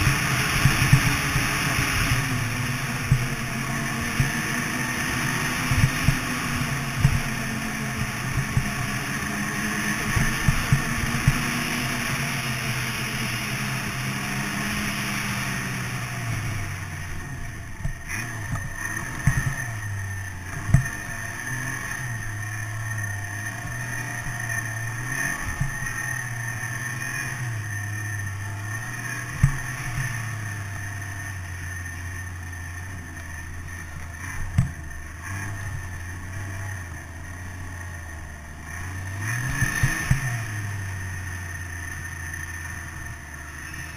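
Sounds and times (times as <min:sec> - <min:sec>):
snowmobile engine revving: 0:00.0 - 0:43.9
steady high whine: 0:00.0 - 0:43.9.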